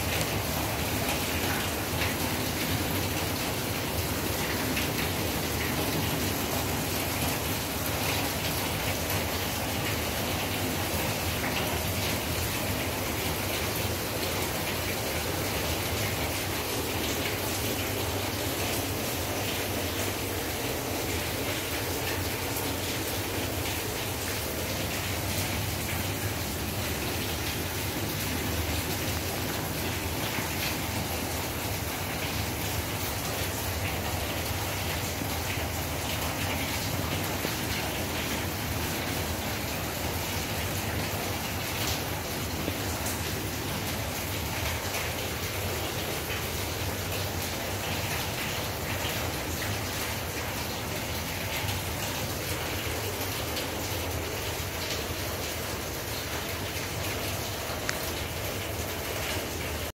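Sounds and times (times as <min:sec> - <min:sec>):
rain on hard ground: 0:00.0 - 1:00.0.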